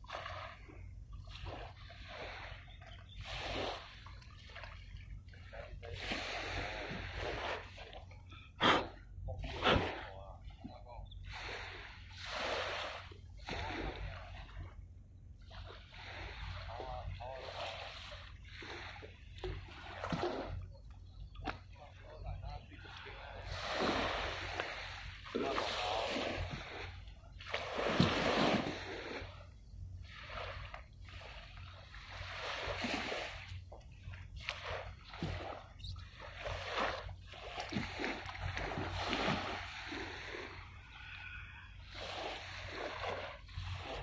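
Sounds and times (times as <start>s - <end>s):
small waves splashing: 0.0s - 44.0s
steady low hum: 0.0s - 44.0s.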